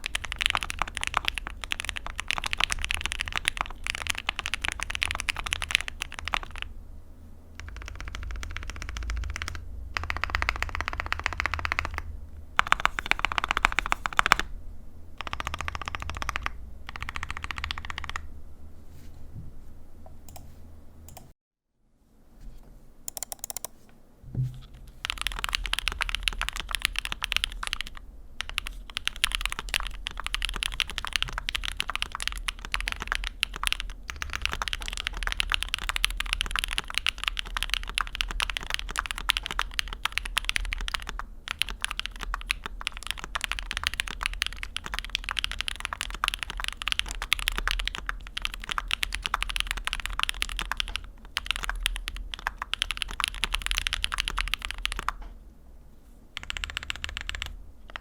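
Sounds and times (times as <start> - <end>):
mechanical keyboard typing: 0.0 - 6.7, 7.6 - 14.5, 15.2 - 18.3, 21.1 - 21.3, 23.1 - 23.8, 24.9 - 55.2, 56.4 - 58.0.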